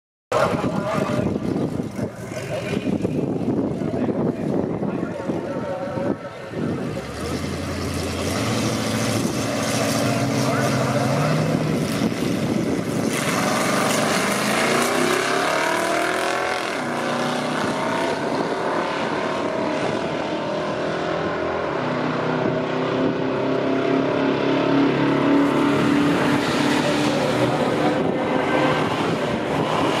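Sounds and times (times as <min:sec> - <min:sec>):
cars accelerating at full throttle: 0:00.3 - 0:30.0.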